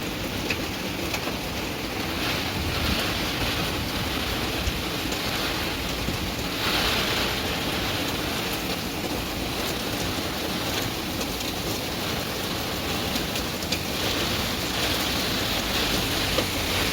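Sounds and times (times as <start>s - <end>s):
heavy rain and wind: 0.0s - 16.9s.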